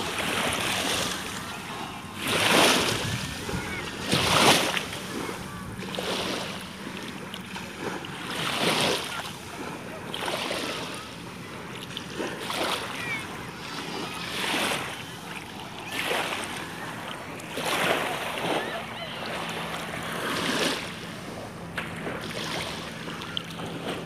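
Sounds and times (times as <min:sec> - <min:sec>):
waves washing over sand: 0:00.0 - 0:24.0.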